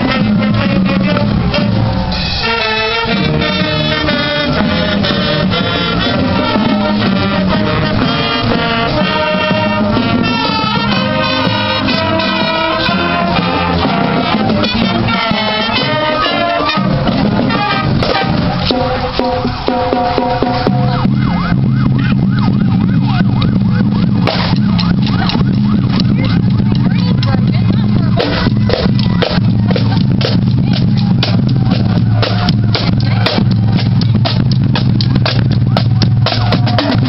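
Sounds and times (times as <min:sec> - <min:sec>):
marching band playing: 0:00.0 - 0:37.0.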